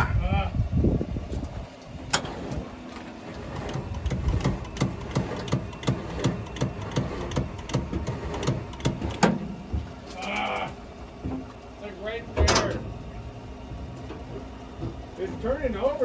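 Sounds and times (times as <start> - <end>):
truck engine cranking by starter: 0.8 - 16.0.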